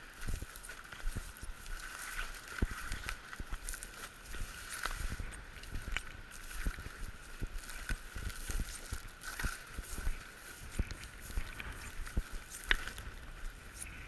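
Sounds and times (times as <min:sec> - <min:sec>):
footsteps on forest floor: 0:00.0 - 0:14.0.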